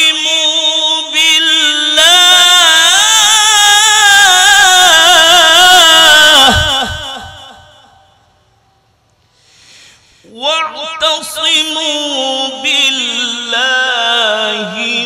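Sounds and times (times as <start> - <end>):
man reciting melodically: 0.0 - 8.3, 10.2 - 15.0.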